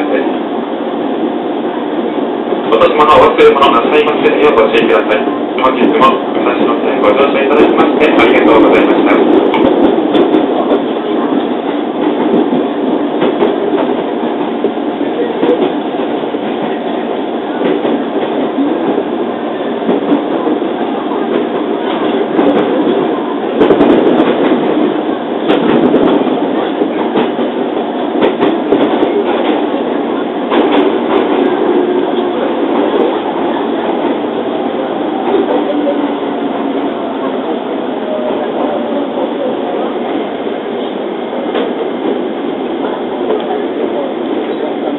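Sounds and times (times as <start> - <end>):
falling train tone: 0.0 - 44.9
train wheels rumbling on rail: 0.0 - 44.9
rail-joint clacks: 2.0 - 44.9.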